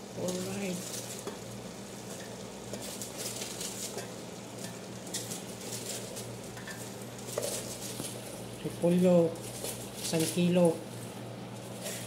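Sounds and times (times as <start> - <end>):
cabbage leaves rustling and crackling: 0.0 - 12.0
food sizzling in a pot: 0.0 - 12.0
steady low hum: 0.0 - 12.0.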